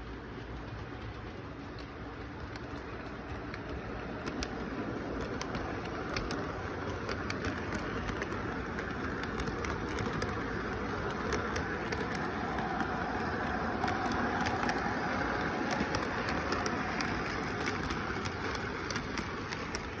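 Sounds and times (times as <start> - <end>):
light clicks of train wheels: 0.0 - 20.0
model train rumbling: 0.0 - 20.0.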